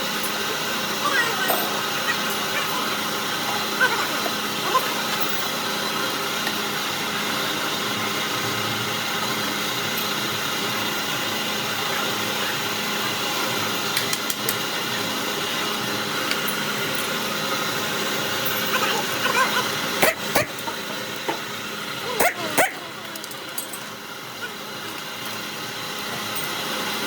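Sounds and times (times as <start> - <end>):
machine motor hum: 0.0 - 27.0.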